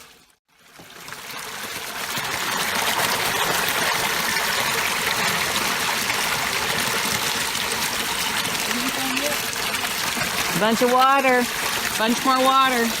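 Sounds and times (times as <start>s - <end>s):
creek water rushing: 1.2s - 13.0s.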